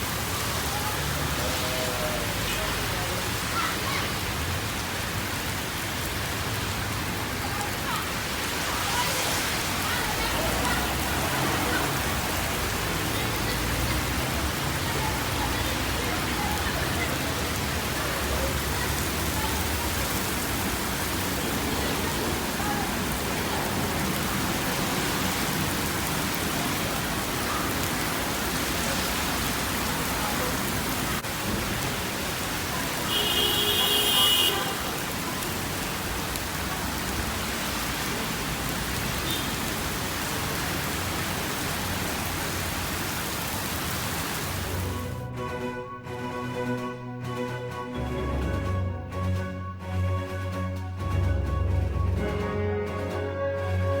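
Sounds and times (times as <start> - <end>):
heavy rain falling: 0.0 - 45.3, 48.0 - 54.0.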